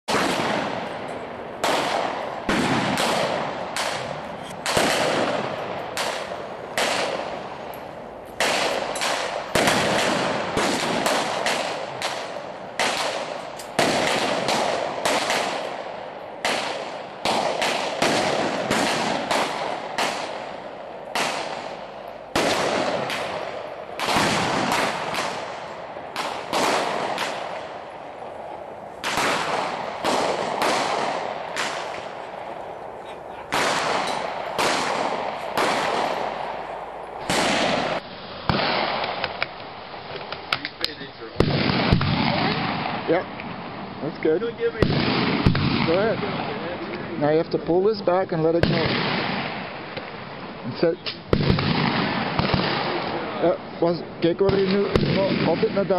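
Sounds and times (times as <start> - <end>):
gunshots: 0.1 - 39.5, 41.4 - 43.7, 44.4 - 46.8, 48.1 - 50.2, 50.8 - 55.9.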